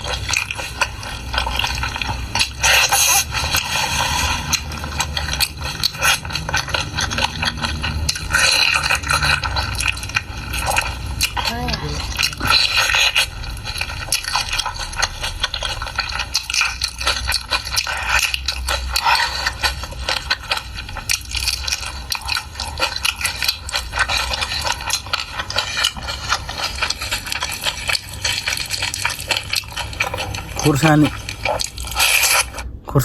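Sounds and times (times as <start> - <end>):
chewing and mouth smacking: 0.0 - 32.8.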